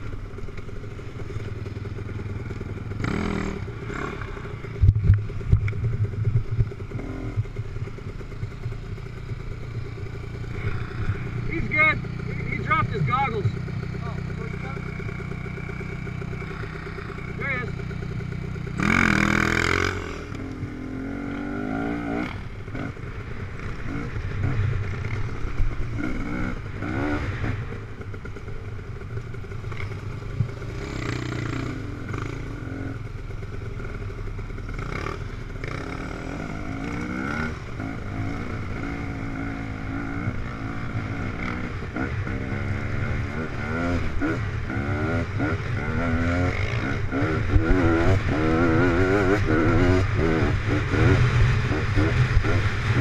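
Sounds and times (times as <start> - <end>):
dirt bike engine revving: 1.0 - 53.0.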